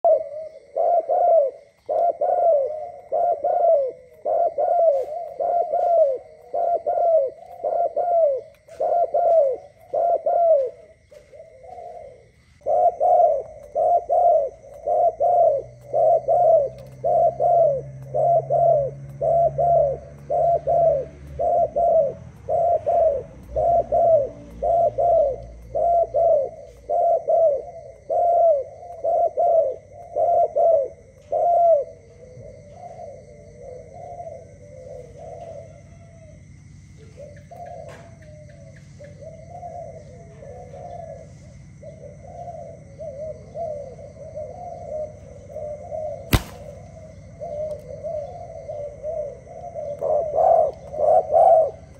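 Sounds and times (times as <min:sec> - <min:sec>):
dove cooing: 0:00.0 - 0:36.4, 0:37.0 - 0:51.9.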